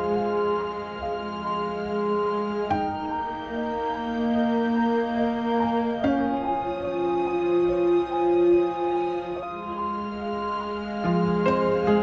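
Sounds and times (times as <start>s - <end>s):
slow sustained chords: 0.0s - 12.0s.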